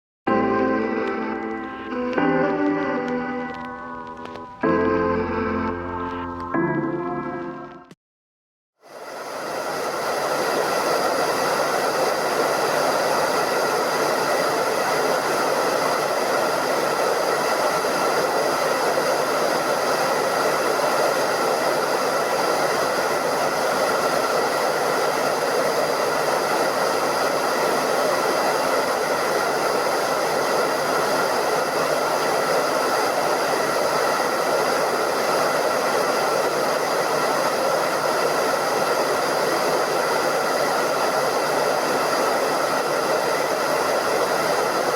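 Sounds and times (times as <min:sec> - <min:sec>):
hair dryer running: 0:00.3 - 0:06.6, 0:08.8 - 0:44.9.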